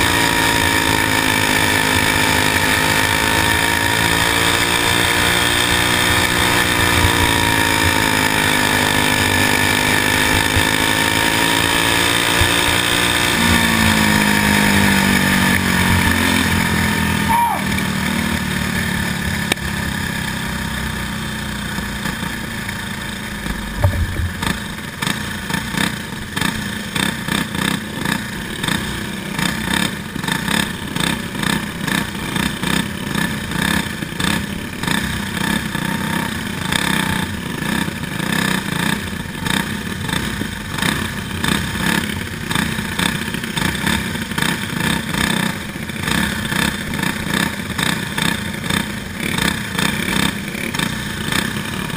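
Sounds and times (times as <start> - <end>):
go-kart engine running: 0.0 - 51.9.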